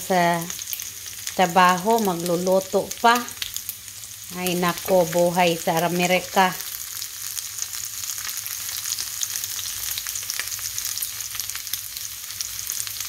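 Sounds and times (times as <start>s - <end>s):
meat sizzling and popping in oil: 0.0s - 13.0s.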